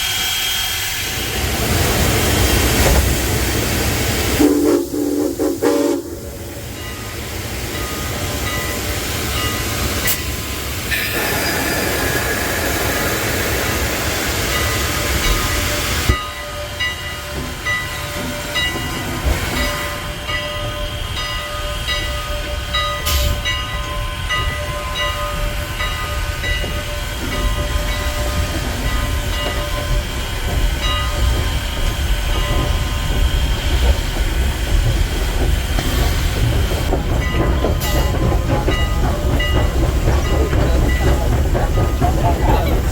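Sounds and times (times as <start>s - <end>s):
loud steam hiss: 0.0s - 42.9s
steam train rumbling: 0.0s - 42.9s.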